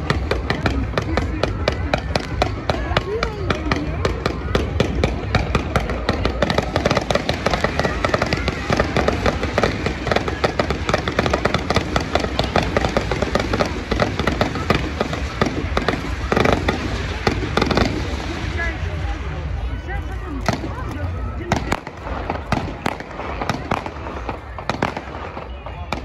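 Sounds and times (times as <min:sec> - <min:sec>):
loud firework burst: 0:00.0 - 0:19.3, 0:20.4 - 0:26.0
fireworks crackling and popping: 0:00.0 - 0:26.0.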